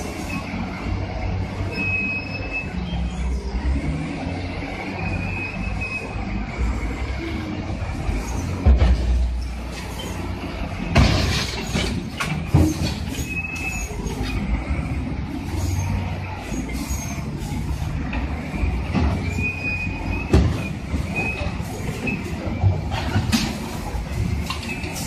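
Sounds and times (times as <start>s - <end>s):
diesel engines rumbling: 0.0s - 25.0s.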